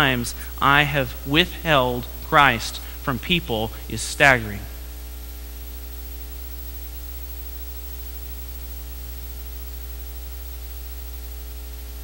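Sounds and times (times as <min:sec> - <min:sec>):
background hiss: 0:00.0 - 0:12.0
electrical mains hum: 0:00.0 - 0:12.0.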